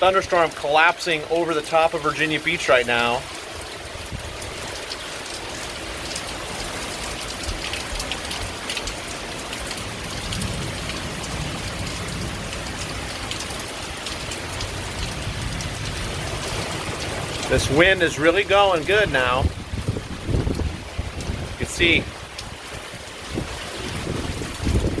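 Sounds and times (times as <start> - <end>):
heavy rain: 0.0 - 25.0
wind rumbling on microphone: 3.6 - 5.0, 6.1 - 25.0.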